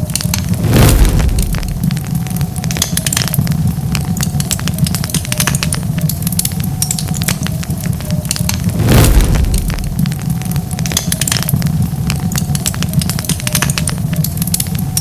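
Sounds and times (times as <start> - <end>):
fire popping and snapping: 0.0 - 15.0
low rumble of flame: 0.0 - 15.0
wood fire crackling: 0.0 - 15.0.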